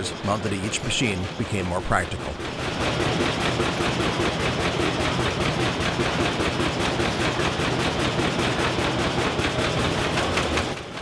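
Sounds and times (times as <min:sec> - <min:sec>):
two-stroke diesel engine running: 0:00.0 - 0:11.0.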